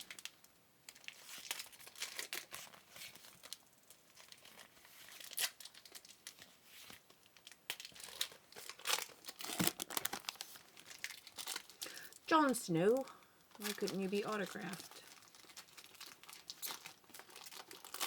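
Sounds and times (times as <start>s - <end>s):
card wrappers crinkling: 0.0s - 18.0s.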